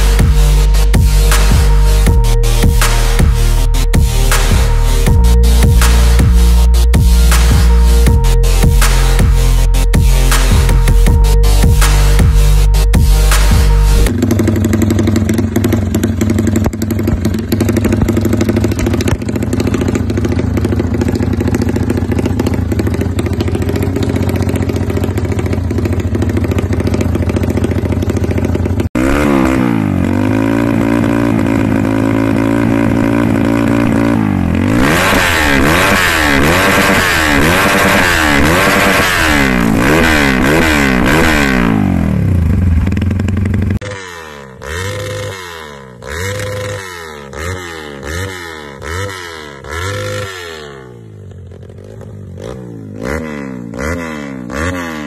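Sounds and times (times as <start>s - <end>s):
motorbike engine idling: 0.0s - 28.9s, 29.6s - 50.3s
motorbike engine revving: 0.0s - 55.0s.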